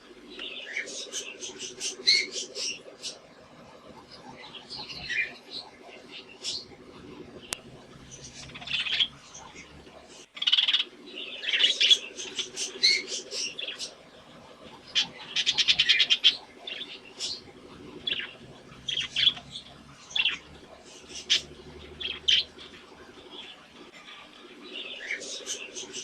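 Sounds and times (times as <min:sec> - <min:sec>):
budgies chirping: 0:00.0 - 0:26.0
rapid rattling trill: 0:00.0 - 0:26.0
soft bird chatter: 0:00.0 - 0:26.0.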